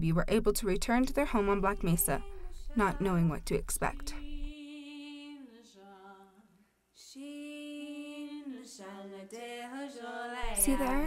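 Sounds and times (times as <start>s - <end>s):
woman singing unaccompanied: 0.2s - 11.0s.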